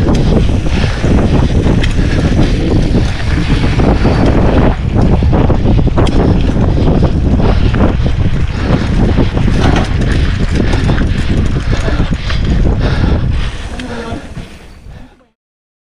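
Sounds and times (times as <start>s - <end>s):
bike chain and frame rattling: 0.0s - 15.1s
wind buffeting microphone: 0.0s - 15.2s.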